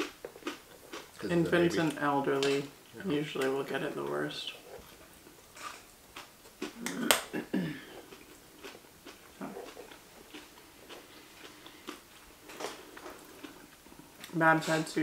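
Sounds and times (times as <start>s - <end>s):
chewing and mouth sounds: 0.0s - 3.5s, 4.5s - 14.9s.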